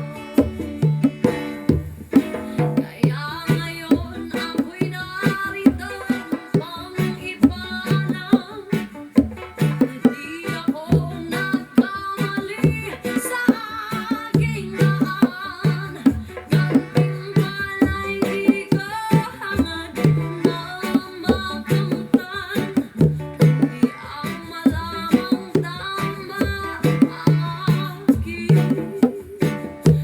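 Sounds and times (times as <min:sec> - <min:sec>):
bongos played by hand: 0:00.0 - 0:30.0
person singing: 0:00.0 - 0:30.0
plucked guitar: 0:00.0 - 0:30.0.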